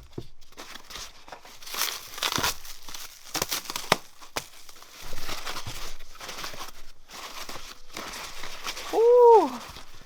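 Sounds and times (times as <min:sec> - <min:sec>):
packaging crinkling: 0:00.5 - 0:09.0.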